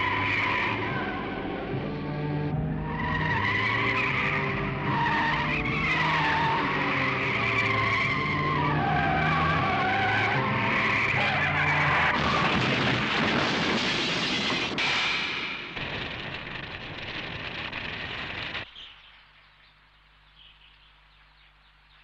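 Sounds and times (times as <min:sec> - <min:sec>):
car engine: 0:00.0 - 0:18.7
car tyres screeching: 0:00.0 - 0:18.7.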